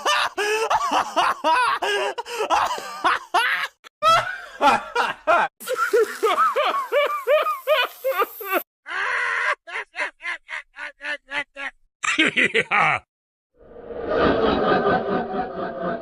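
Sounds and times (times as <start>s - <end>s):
cartoon voices laughing and giggling: 0.0s - 13.1s, 14.2s - 16.0s.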